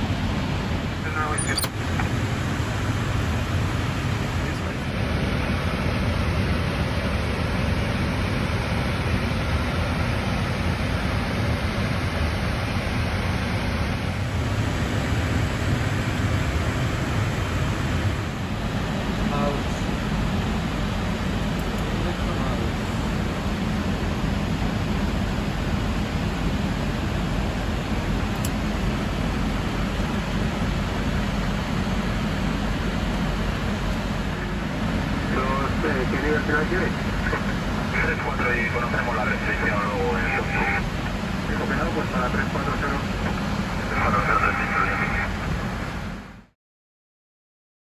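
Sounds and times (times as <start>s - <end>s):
cockpit airflow and engine noise: 0.0s - 46.6s.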